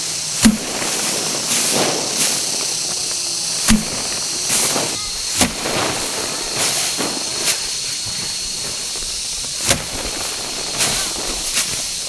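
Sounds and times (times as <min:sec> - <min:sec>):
rice stalks swishing: 0:00.0 - 0:12.0
sharp crack: 0:00.0 - 0:12.0
steady hiss with high tone: 0:00.0 - 0:12.0.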